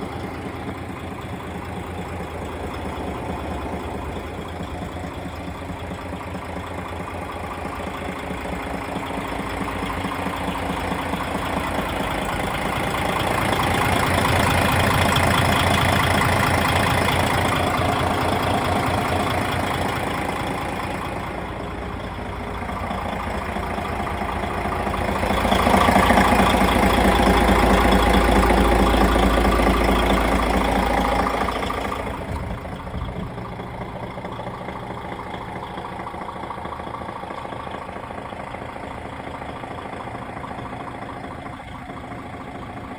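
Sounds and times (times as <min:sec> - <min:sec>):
diesel truck engine idling and revving: 0:00.0 - 0:42.9.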